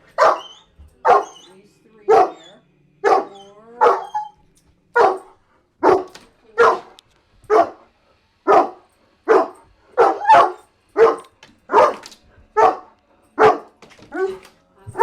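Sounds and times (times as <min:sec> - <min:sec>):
dog barking: 0:00.0 - 0:15.0.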